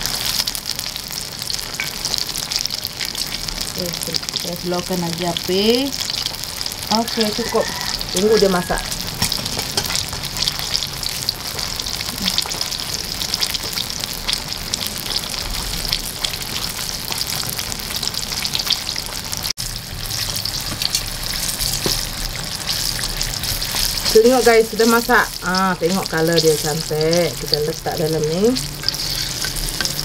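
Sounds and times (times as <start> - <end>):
deep-frying sizzle and crackle: 0.0 - 30.0.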